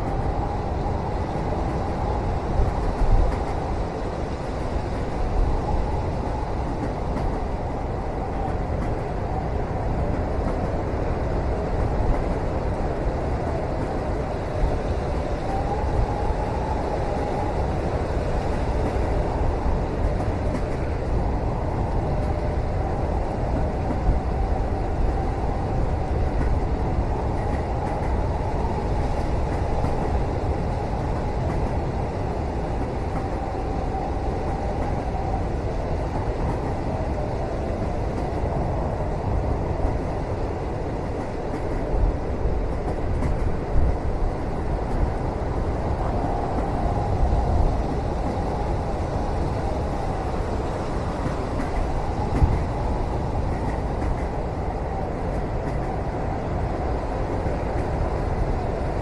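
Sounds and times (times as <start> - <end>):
train carriage rumbling on rails: 0.0 - 59.0.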